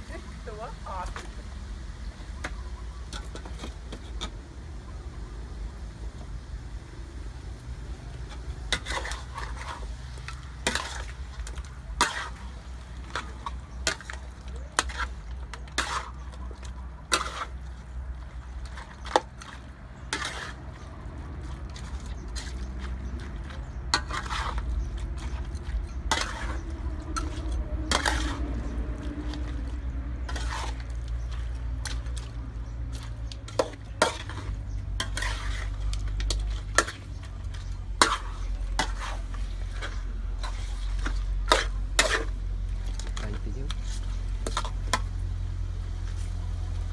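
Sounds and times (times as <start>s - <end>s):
metal spatula scraping a wok: 2.4s - 4.4s, 8.1s - 46.9s.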